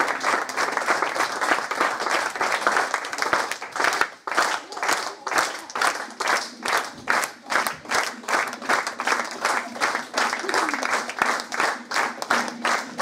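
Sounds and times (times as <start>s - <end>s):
audience clapping in unison: 0.0s - 13.0s.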